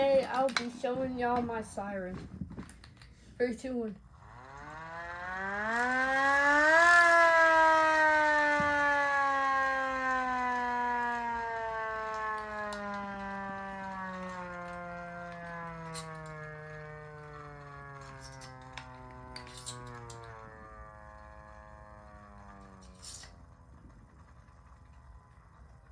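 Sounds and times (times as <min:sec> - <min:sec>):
siren wailing: 0:04.1 - 0:25.9.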